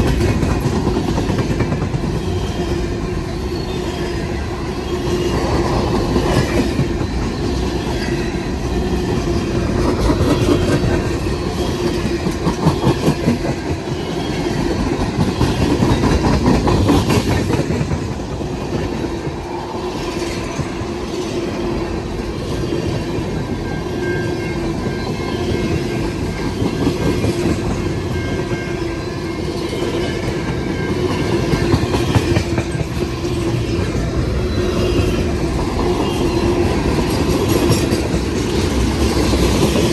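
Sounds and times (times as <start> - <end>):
freight train cars rumbling: 0.0 - 39.9.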